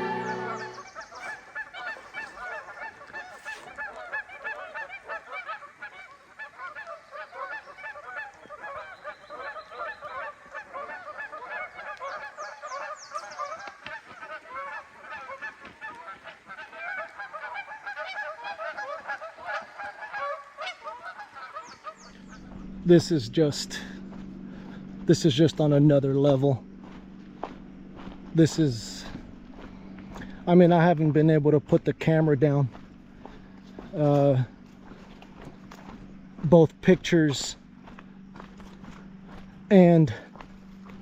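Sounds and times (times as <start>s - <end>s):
flock of geese honking: 0.0s - 41.0s.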